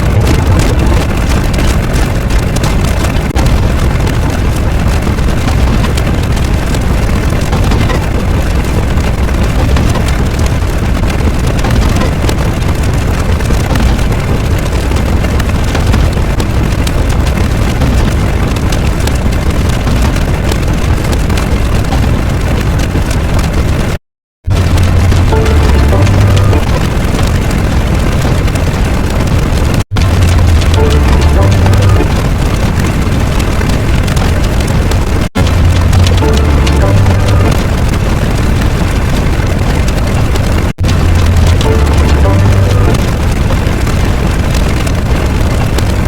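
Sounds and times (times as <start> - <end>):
loud rumbling noise: 0.0 - 46.0.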